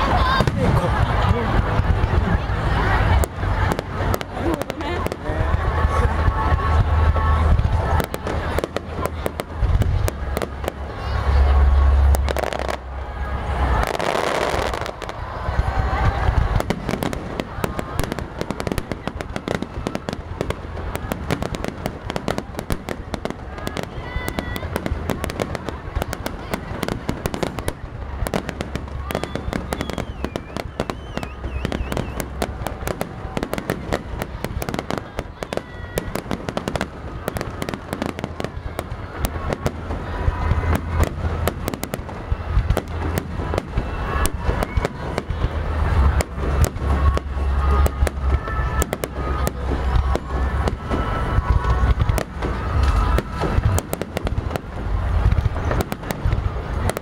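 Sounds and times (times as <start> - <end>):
fireworks crackling and popping: 0.0 - 57.0.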